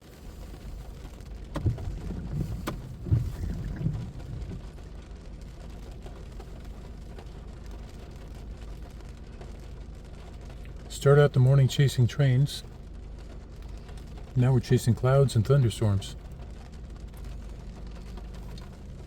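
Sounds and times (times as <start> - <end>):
car driving rumble from inside: 0.0 - 11.6, 12.6 - 19.0.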